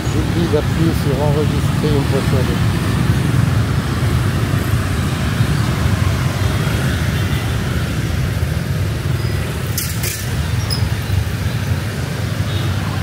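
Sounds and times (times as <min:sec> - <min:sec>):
city street traffic rumble: 0:00.0 - 0:13.0
motorbikes and cars passing: 0:00.0 - 0:13.0.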